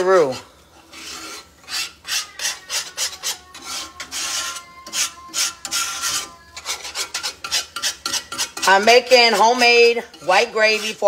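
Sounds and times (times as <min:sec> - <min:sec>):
utensil scraping a skillet: 0:00.0 - 0:11.0.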